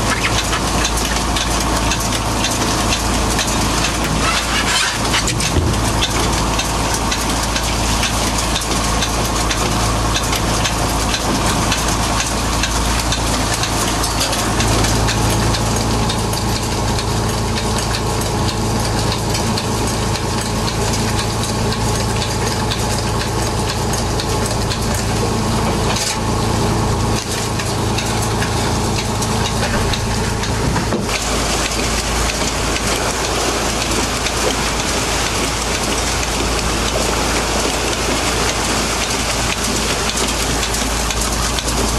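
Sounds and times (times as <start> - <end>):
boat engine low hum: 0.0 - 41.9.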